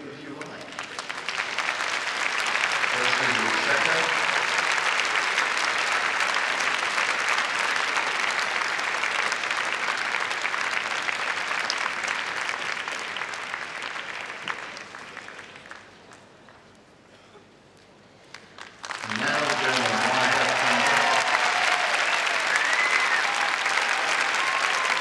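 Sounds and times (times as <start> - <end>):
crowd applauding: 0.0 - 16.7, 18.2 - 25.0.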